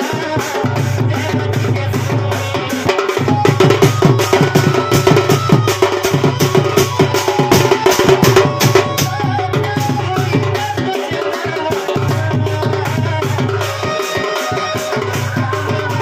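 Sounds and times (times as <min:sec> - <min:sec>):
fast loud barrel drumming: 0:00.0 - 0:16.0.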